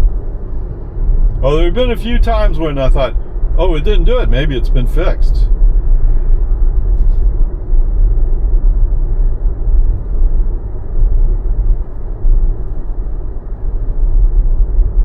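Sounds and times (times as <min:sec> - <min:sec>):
road and tyre rumble in car: 0:00.0 - 0:15.0.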